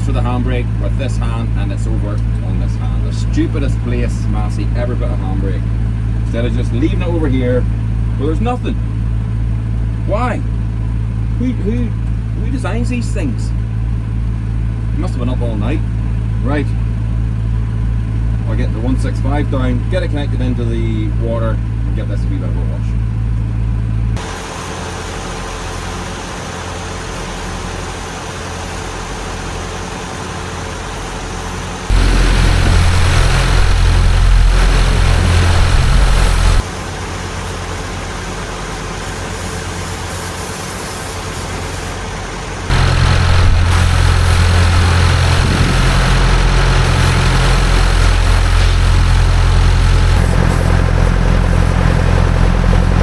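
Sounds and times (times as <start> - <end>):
tractor engines idling: 0.0 - 53.0.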